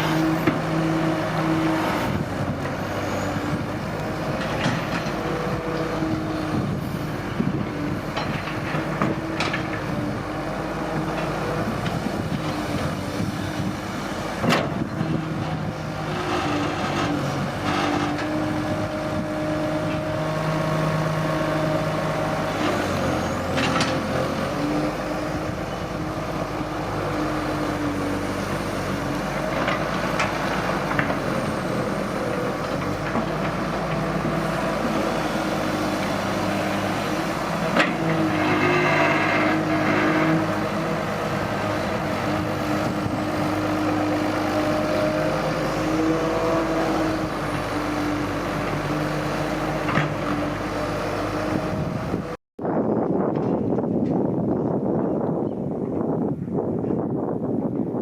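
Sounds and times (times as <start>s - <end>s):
diesel excavator engine working: 0.0s - 58.0s.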